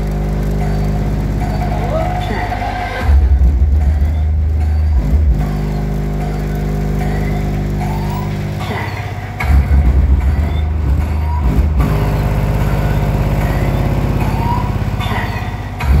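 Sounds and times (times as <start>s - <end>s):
bass-heavy music through subwoofers: 0.0s - 16.0s.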